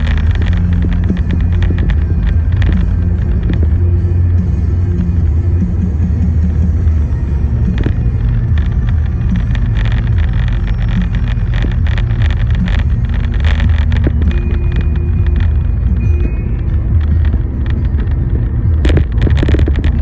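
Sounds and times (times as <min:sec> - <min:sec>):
road rumble of vehicle: 0:00.0 - 0:20.0.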